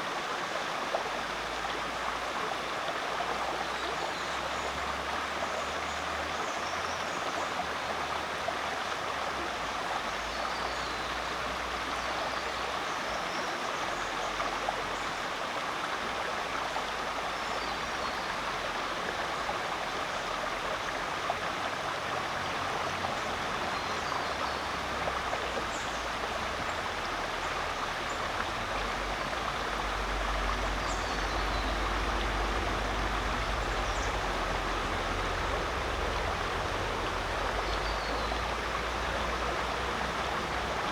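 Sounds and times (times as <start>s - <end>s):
creek flowing over rocks: 0.0s - 40.9s.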